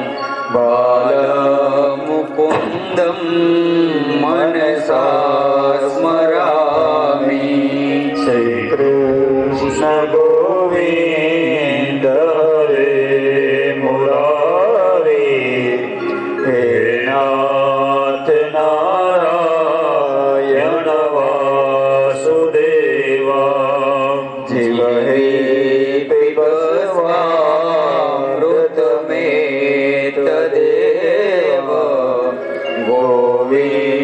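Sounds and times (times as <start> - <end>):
man chanting: 0.0 - 34.0.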